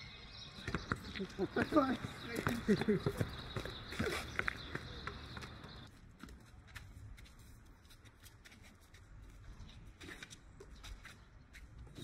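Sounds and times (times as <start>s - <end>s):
sneakers and ball on asphalt: 0.3s - 12.0s.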